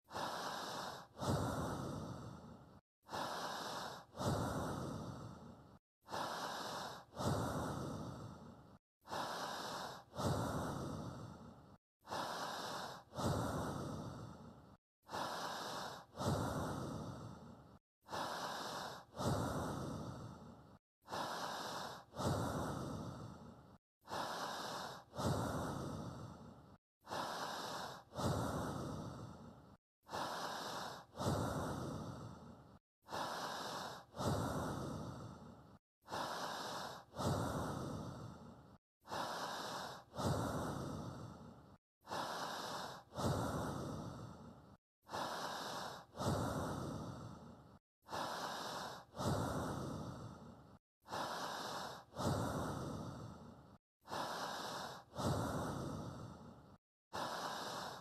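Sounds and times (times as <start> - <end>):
person breathing: 0.0 - 58.0.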